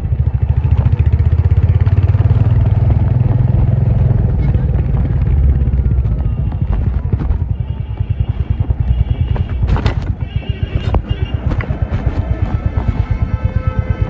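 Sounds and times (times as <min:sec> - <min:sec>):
motorcycle engine thumping: 0:00.0 - 0:14.0.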